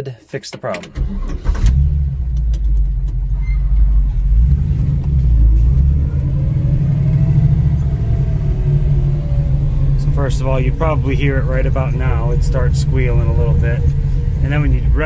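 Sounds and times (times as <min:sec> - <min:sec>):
car engine rumbling: 0:00.6 - 0:15.0.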